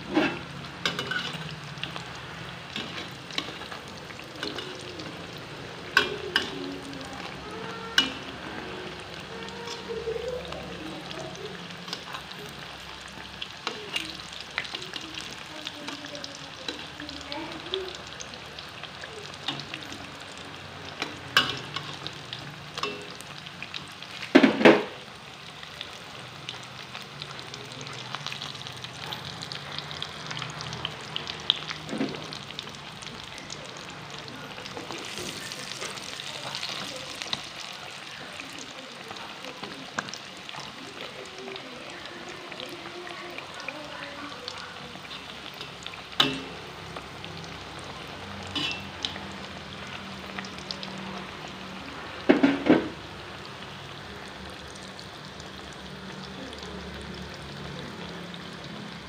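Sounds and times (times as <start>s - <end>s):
deep-frying in oil sizzling: 0.0s - 59.0s.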